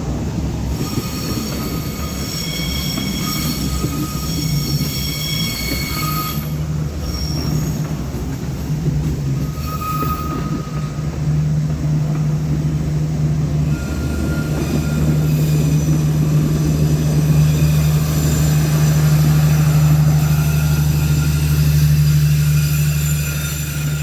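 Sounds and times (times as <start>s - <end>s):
diesel train engine drone: 0.0s - 24.0s
faint wheel squeal on rails: 0.6s - 24.0s.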